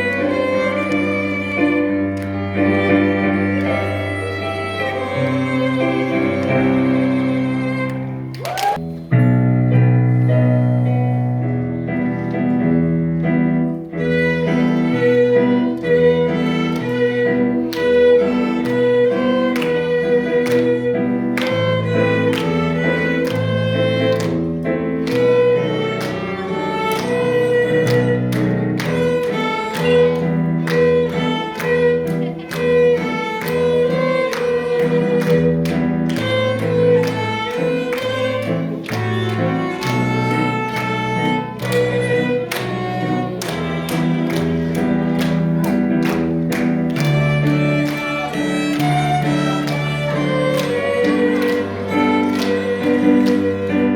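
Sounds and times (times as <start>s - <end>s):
small ensemble instrumental piece: 0.0s - 53.9s.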